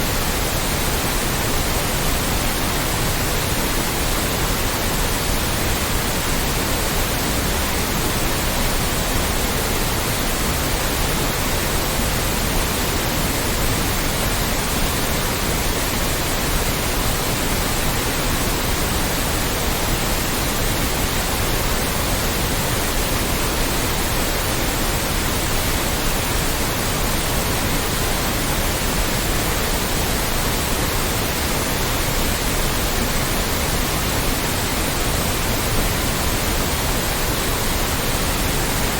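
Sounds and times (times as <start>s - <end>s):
loud white noise hiss: 0.0s - 38.9s.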